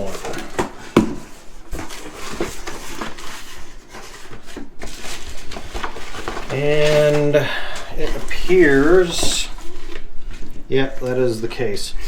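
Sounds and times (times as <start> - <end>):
packaging rustling: 0.0 - 11.8.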